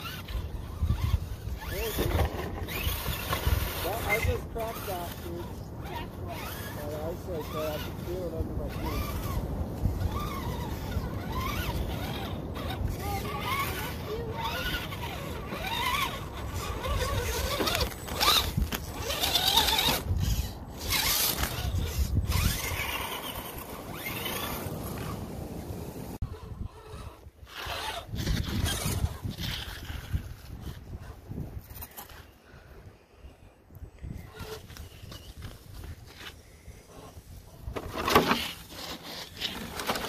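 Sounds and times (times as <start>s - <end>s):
electric motor and gears whining: 0.0s - 32.2s, 34.0s - 40.0s.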